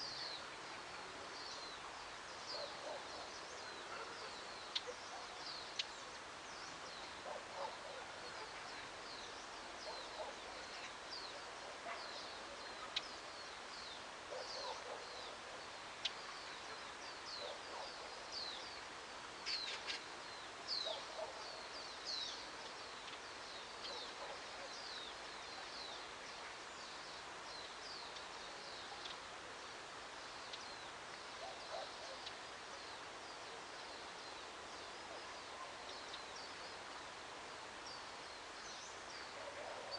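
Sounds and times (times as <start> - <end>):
outdoor ambience hiss: 0.0 - 39.9
small birds chirping: 0.0 - 39.9.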